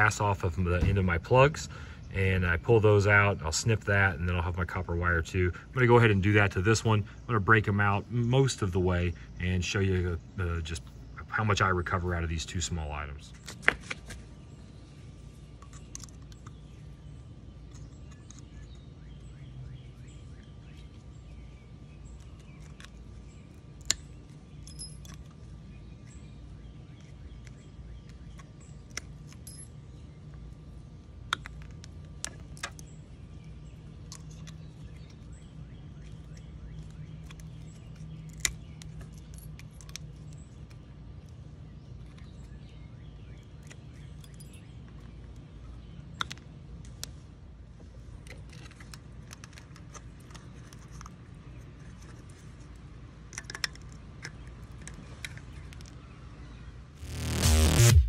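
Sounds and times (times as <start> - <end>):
low background hum: 0.0 - 58.0.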